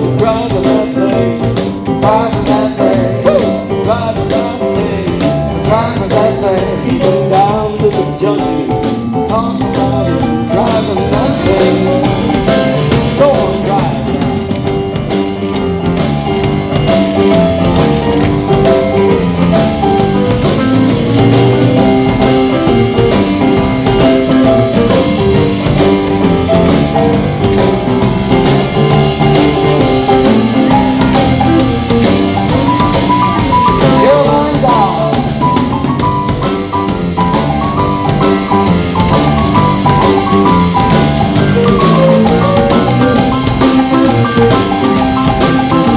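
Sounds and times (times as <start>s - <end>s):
drum kit beat: 0.0s - 45.9s
live blues band playing: 0.0s - 45.9s.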